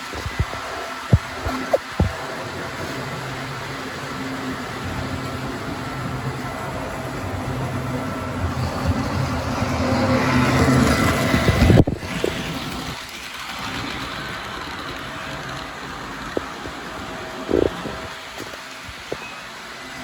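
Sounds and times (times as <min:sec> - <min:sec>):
model train motor and wheels humming: 0:00.0 - 0:20.0.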